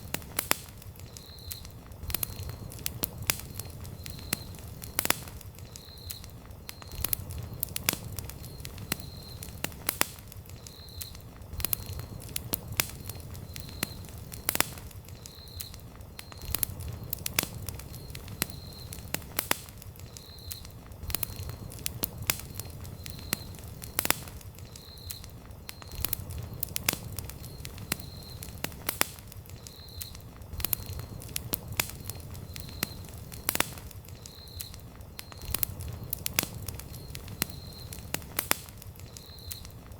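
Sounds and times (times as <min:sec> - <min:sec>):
campfire crackling and popping: 0:00.0 - 0:39.9
rumble of flames: 0:00.0 - 0:39.9.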